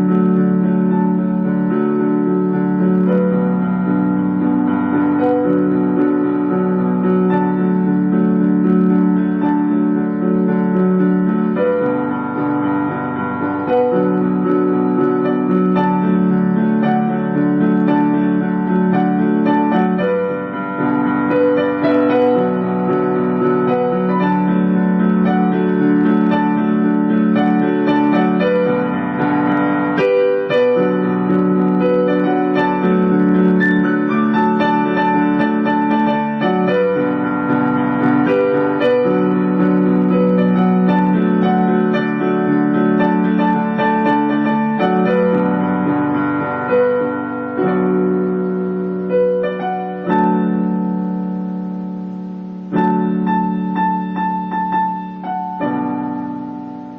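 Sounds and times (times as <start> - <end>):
slow piano music: 0.0 - 56.9.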